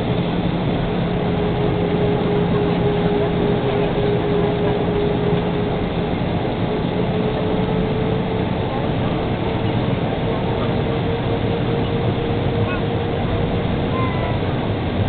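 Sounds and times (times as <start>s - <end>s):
jet engine and airflow rush: 0.0s - 15.0s
steady cabin hum: 0.0s - 15.0s.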